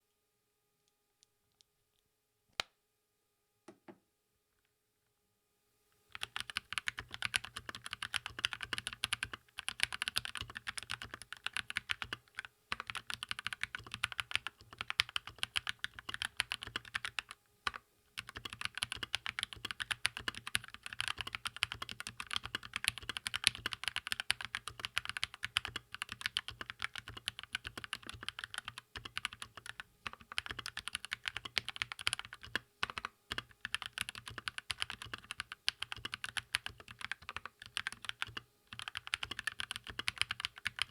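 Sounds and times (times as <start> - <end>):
mechanical keyboard typing: 6.1 - 40.9.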